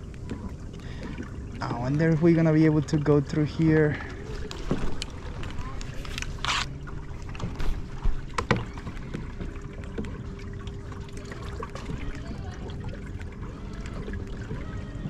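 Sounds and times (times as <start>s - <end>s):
faint steady hum: 0.0s - 15.0s
water lapping against a hull: 0.0s - 15.0s.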